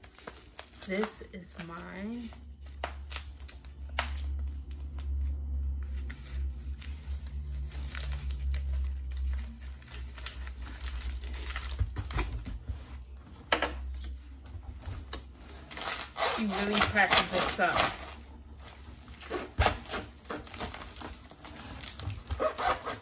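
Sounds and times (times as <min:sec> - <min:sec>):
bubble wrap crinkling: 0:00.0 - 0:23.0.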